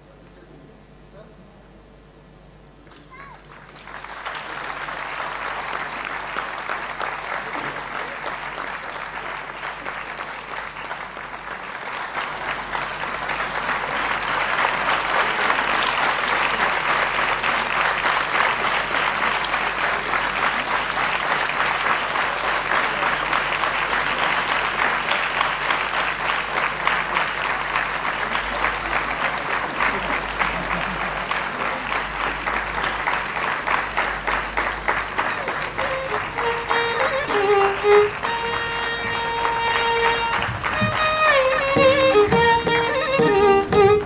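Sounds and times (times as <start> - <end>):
audience applauding: 2.9 - 44.0.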